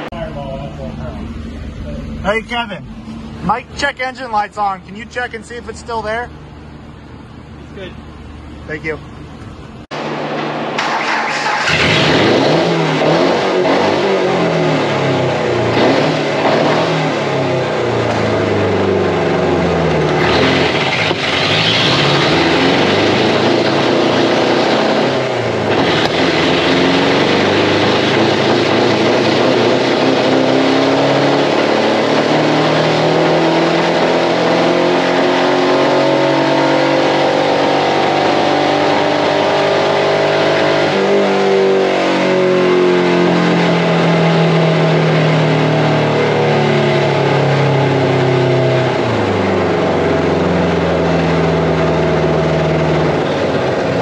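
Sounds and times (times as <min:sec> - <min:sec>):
pickup engine revving: 0:09.9 - 0:54.0.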